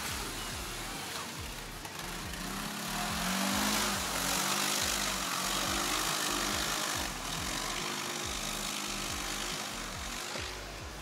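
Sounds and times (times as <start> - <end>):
electronic dance music: 0.0 - 11.0
quad engine revving: 0.0 - 11.0.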